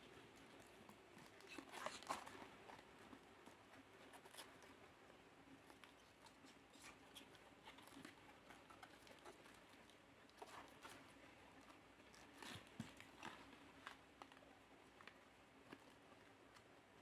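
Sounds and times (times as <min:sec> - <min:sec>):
faint ticks and rustles: 0:00.0 - 0:17.0.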